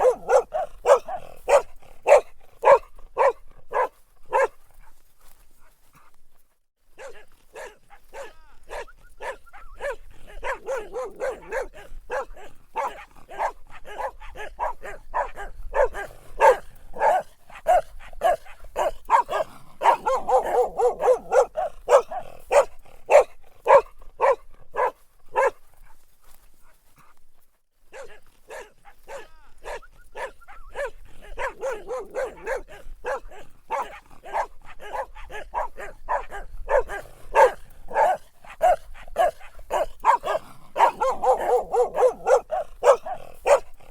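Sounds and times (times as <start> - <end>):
dog barking: 0.0 - 5.0, 6.9 - 26.0, 27.9 - 43.9.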